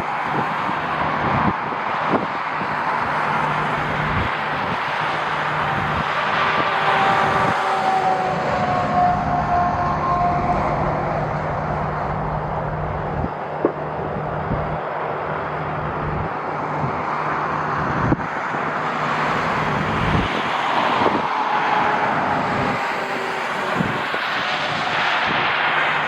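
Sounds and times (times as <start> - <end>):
jet airliner engines running: 0.0 - 26.0
wind buffeting microphone: 0.0 - 26.0.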